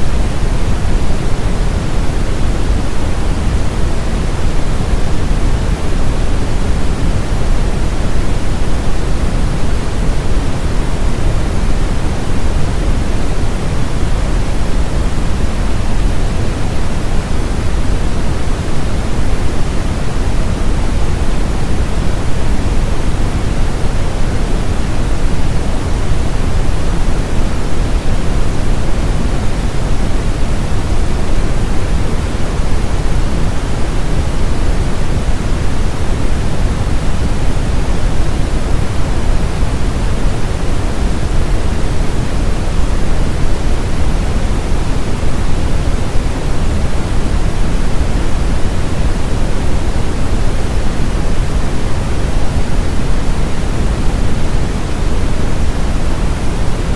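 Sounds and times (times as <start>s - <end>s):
brown noise: 0.0s - 56.9s.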